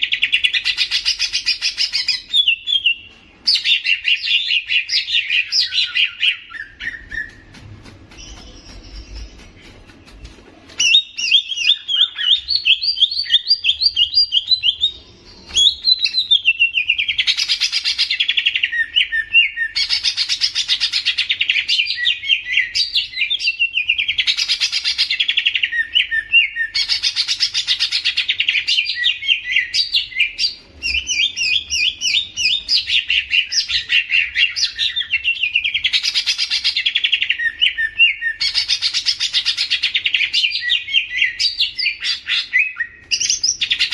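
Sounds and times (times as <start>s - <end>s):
bird chattering song: 0.0s - 43.9s.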